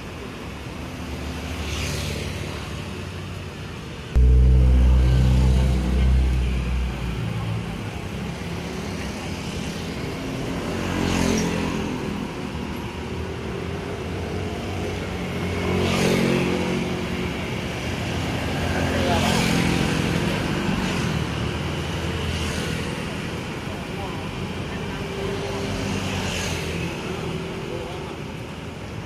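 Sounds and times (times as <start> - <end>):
street traffic: 0.0 - 29.0
vehicles passing: 0.0 - 29.0.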